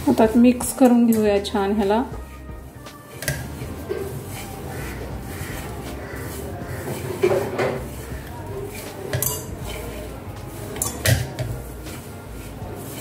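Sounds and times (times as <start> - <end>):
hand rubbing flour: 0.0 - 13.0.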